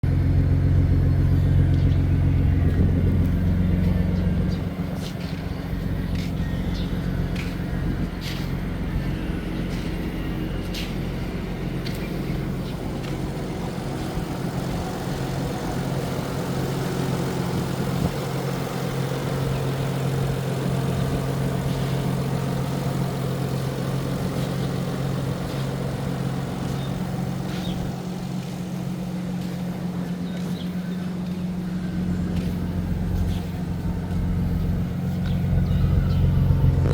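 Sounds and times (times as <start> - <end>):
car engine running steadily: 0.0 - 36.9.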